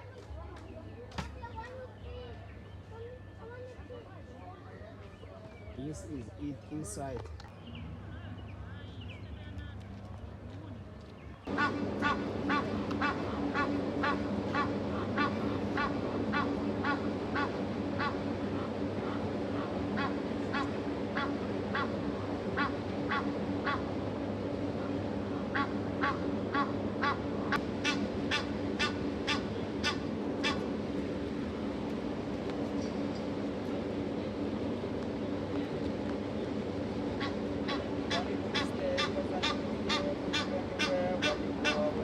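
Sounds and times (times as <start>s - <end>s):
steady low hum: 1.3s - 42.0s.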